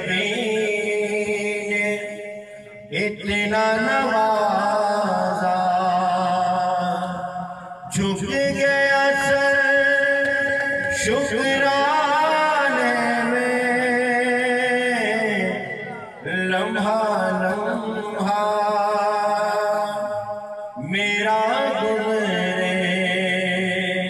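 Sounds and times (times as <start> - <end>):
man singing devotional song: 0.0 - 24.0.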